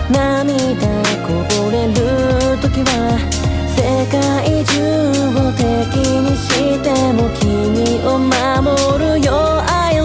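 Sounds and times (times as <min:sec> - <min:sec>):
pop music with synths and drums: 0:00.0 - 0:10.0.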